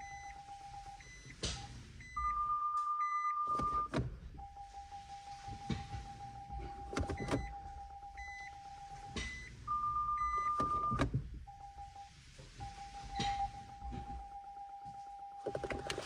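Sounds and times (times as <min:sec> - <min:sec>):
pedestrian warning tones and beeps: 0:00.0 - 0:16.0.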